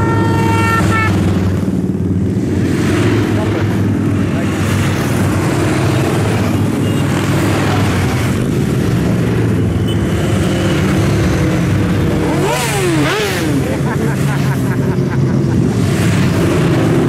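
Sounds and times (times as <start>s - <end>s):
motorcycle engines in traffic: 0.0s - 17.0s.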